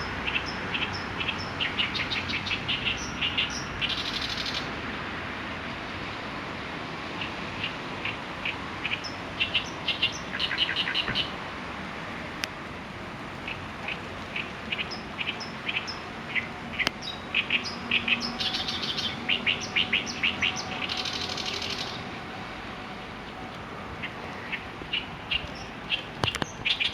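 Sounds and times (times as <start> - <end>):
songbird singing: 0.0 - 4.8, 7.0 - 11.4, 12.3 - 26.9.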